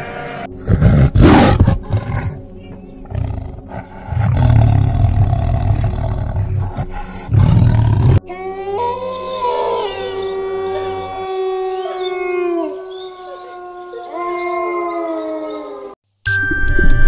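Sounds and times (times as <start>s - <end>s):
wolves howling: 0.0s - 16.0s.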